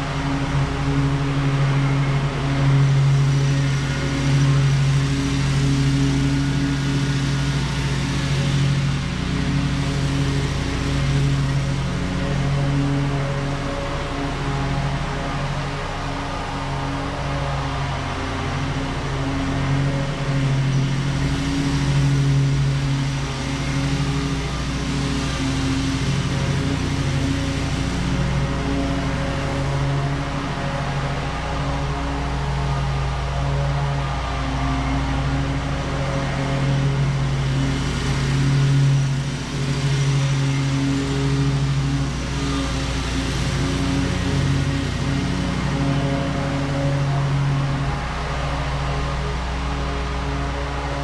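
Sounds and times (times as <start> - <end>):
mower engine running: 0.0 - 51.0.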